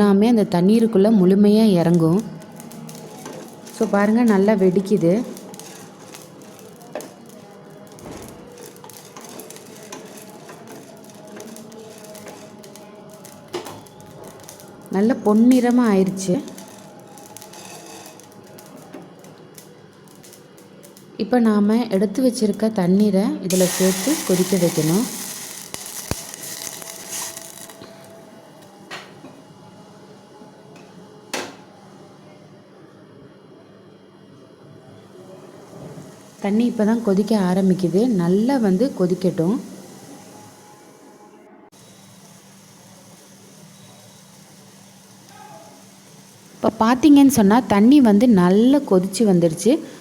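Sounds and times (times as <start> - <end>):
seeds crackling in a hot pan: 0.8 - 21.4, 22.0 - 28.7, 35.1 - 40.9, 41.7 - 50.0.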